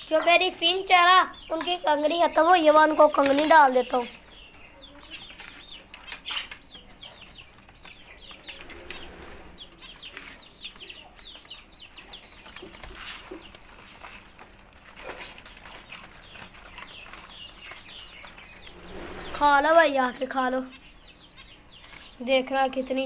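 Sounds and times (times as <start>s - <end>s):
chickens clucking: 0.0s - 23.0s
small birds chirping: 0.0s - 23.0s.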